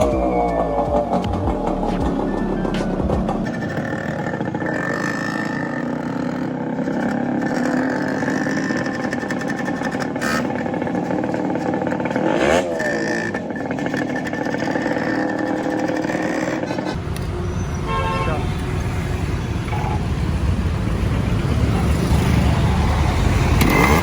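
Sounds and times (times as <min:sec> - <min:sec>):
two-stroke motorcycle engine running: 0:00.0 - 0:24.0.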